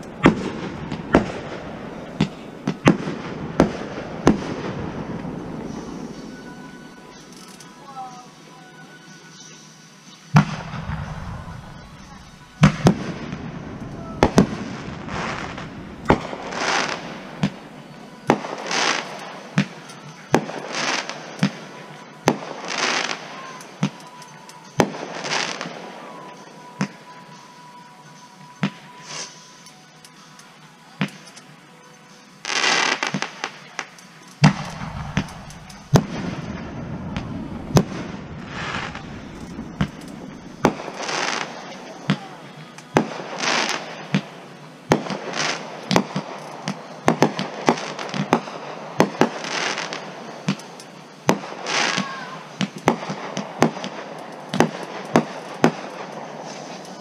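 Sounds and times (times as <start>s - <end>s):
fireworks bangs and pops: 0.0s - 7.8s, 10.2s - 27.5s, 28.4s - 29.6s, 31.0s - 31.6s, 32.4s - 57.0s
fireworks hissing crackle: 0.0s - 57.0s.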